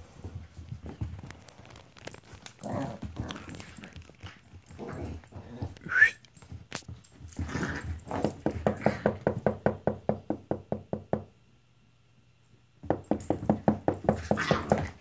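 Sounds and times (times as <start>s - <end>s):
dogs playing rough knocks and thumps: 0.0s - 11.2s, 12.8s - 15.0s.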